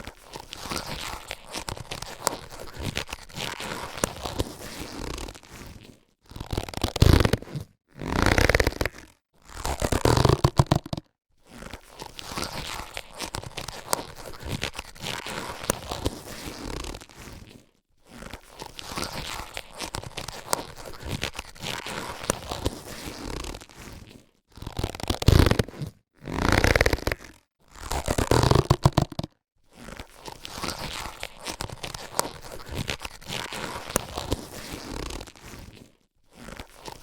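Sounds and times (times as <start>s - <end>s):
latex gloves rubbing and stretching: 0.0s - 37.0s.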